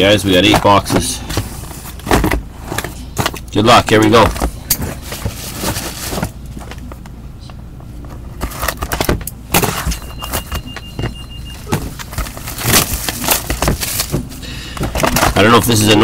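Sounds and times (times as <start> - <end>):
cardboard boxes being handled: 0.0 - 7.0, 8.0 - 16.0.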